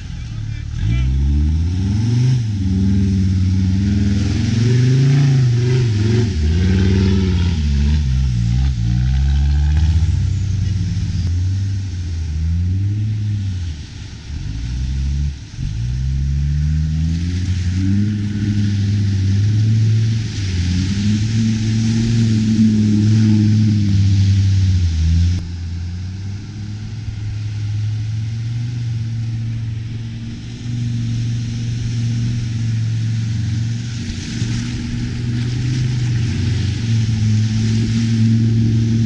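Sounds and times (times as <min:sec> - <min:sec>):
muddy water splashing: 0:00.0 - 0:39.0
truck engine revving: 0:00.0 - 0:39.0.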